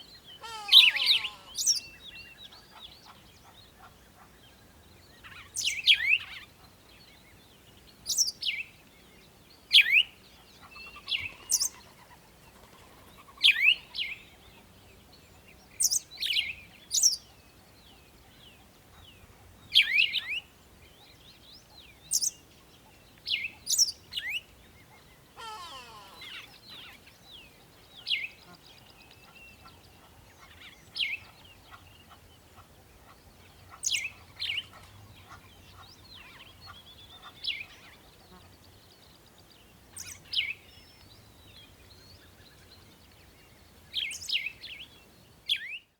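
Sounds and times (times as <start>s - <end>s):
birds chirping: 0.2s - 45.9s.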